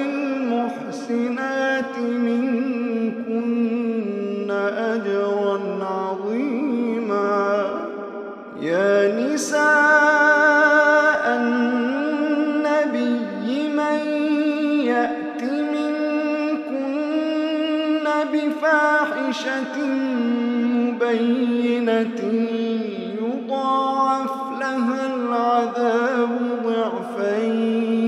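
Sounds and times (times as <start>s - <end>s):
man chanting melodically: 0.0s - 28.0s.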